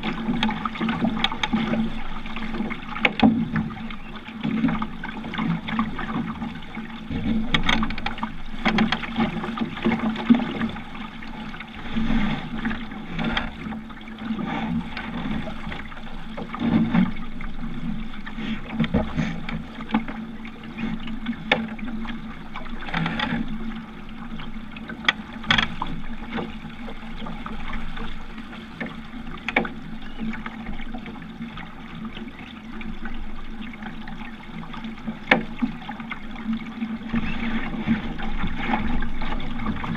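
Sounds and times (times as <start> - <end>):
steady water wash: 0.0 - 39.9
water slapping against hull: 0.0 - 39.9.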